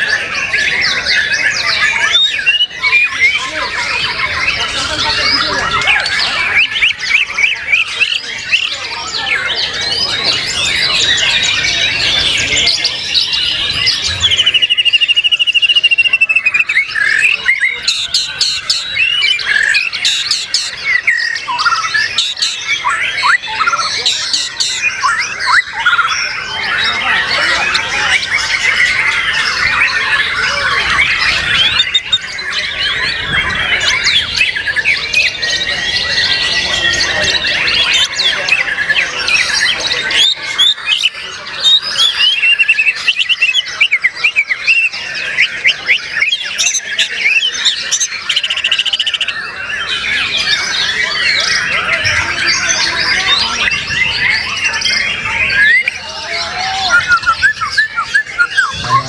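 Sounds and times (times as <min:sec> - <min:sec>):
birds singing whistles and trills: 0:00.0 - 0:59.0.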